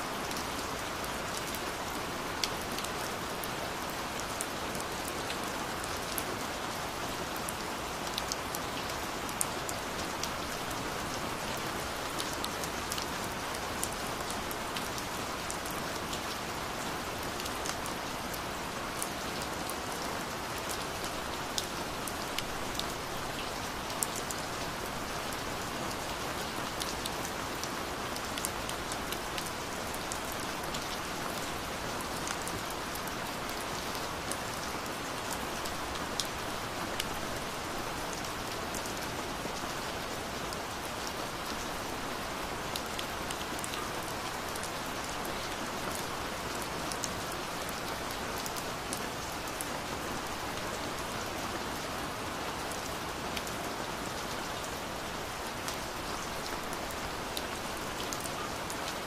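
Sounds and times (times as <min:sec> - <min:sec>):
raindrops ticking on a surface: 0:00.2 - 0:54.4.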